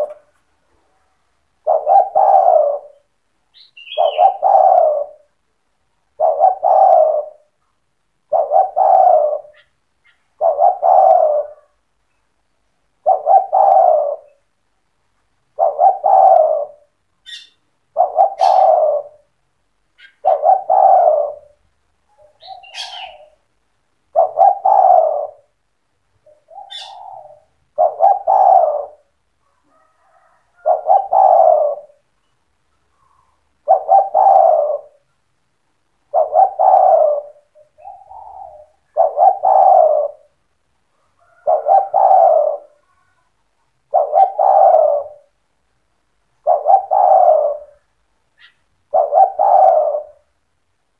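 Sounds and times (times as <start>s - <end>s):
dove cooing: 0.0s - 5.4s, 6.0s - 11.9s, 13.0s - 14.5s, 15.4s - 32.1s, 32.8s - 35.1s, 36.0s - 45.4s, 46.4s - 50.4s.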